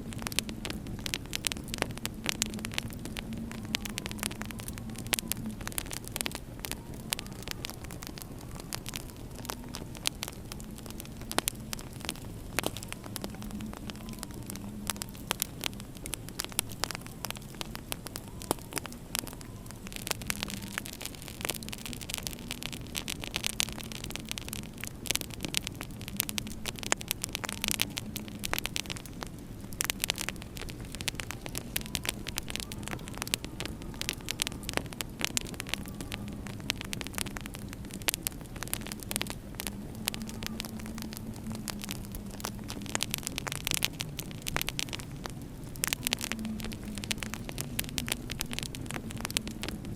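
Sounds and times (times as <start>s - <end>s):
low steady hum: 0.0s - 49.9s
wood fire crackling: 0.0s - 49.9s.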